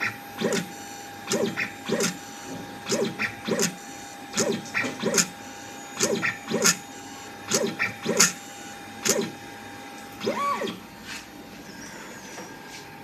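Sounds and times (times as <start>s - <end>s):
stepper motor whine: 0.0s - 13.0s.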